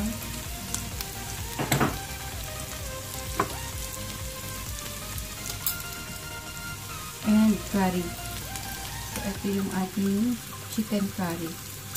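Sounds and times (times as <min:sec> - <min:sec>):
chicken sizzling in a pot: 0:00.0 - 0:11.9.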